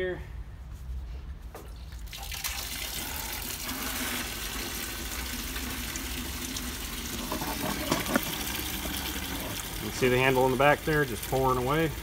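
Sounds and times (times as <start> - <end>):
liquid pouring into plastic bucket: 2.0 - 12.0.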